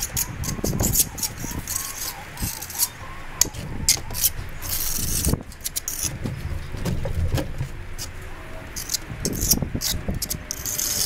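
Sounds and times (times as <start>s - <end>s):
hand tools scraping concrete wall: 0.0s - 11.0s.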